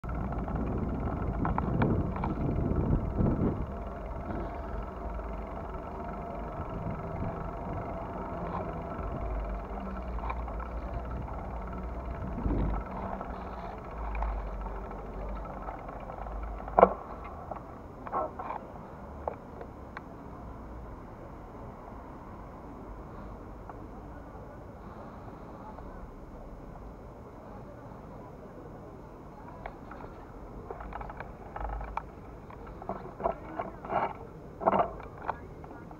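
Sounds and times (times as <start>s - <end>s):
distant traffic rumble: 0.0s - 35.9s.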